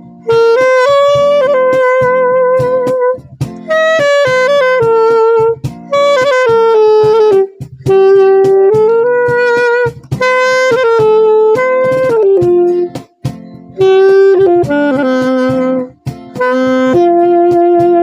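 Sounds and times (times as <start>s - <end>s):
backing accompaniment with beat: 0.0s - 18.0s
saxophone playing slow melody: 0.0s - 18.0s.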